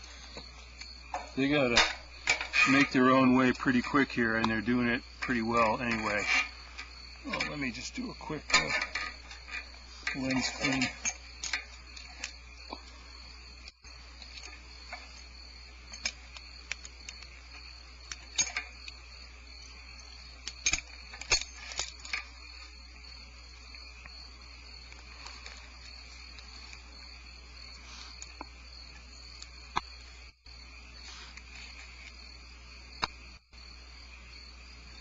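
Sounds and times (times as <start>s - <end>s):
insects chirring: 0.0s - 35.0s
low electrical hum: 0.0s - 35.0s.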